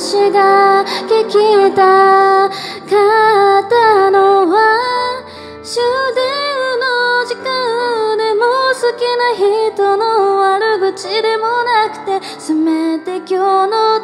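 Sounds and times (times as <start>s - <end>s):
woman singing slow song: 0.0s - 14.0s.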